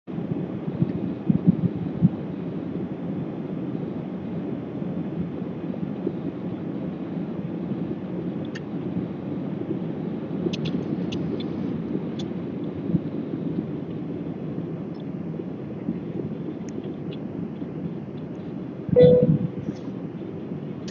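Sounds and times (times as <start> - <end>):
jet engines during takeoff: 0.1 - 20.9.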